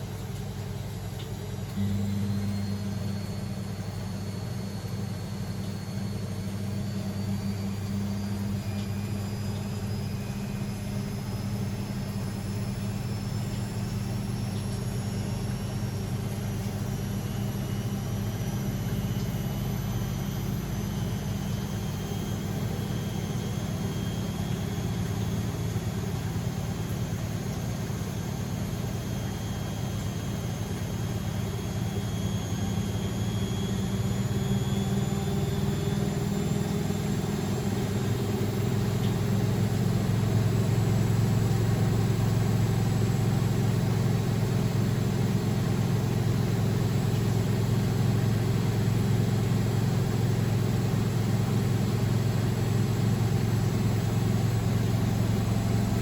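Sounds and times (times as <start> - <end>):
thin motor whine: 0.0 - 56.0
washing machine spinning: 0.0 - 56.0.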